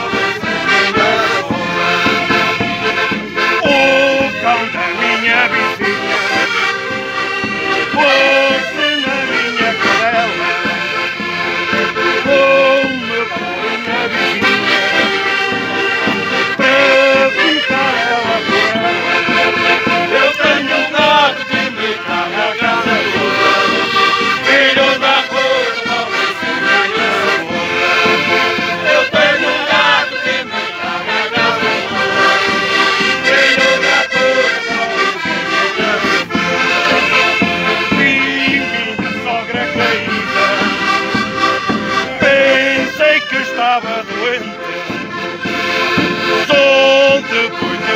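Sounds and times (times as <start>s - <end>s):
bass drum beating: 0.0s - 47.9s
button accordions playing folk tune: 0.0s - 47.9s.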